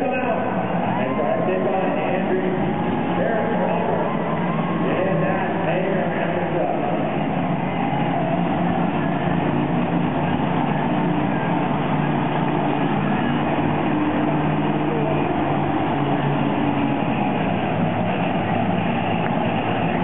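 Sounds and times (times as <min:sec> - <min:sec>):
monster truck engine droning: 0:00.0 - 0:20.0.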